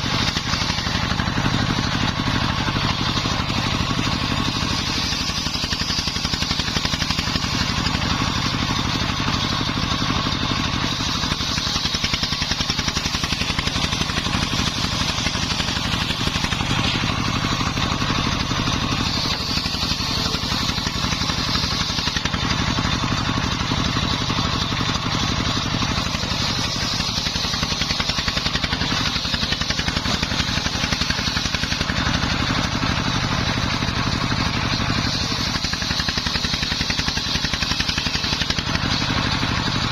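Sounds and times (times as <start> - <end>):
circular saw whine cutting timber: 0.0 - 39.9
diesel engine running under load: 0.0 - 39.9.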